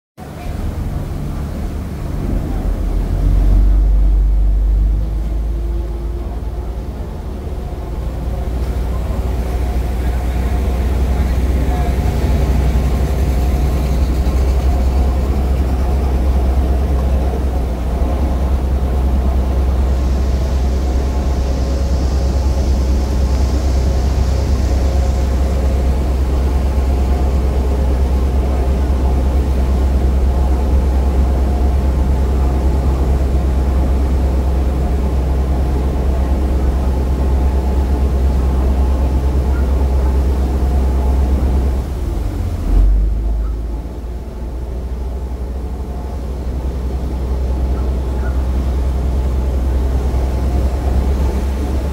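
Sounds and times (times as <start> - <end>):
ferry diesel engines droning: 0.2 - 51.9
steady hum: 0.2 - 51.9.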